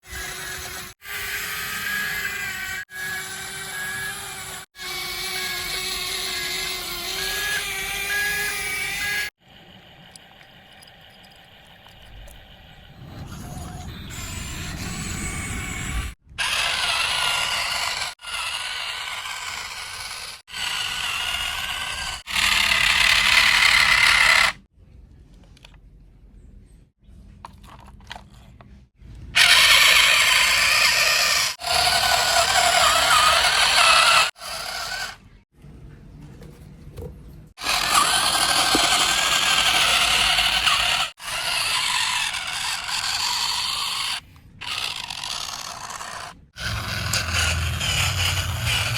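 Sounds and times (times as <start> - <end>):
toy vehicle motors whirring: 0.0 - 13.0, 14.1 - 24.7, 29.4 - 35.3, 37.6 - 48.9.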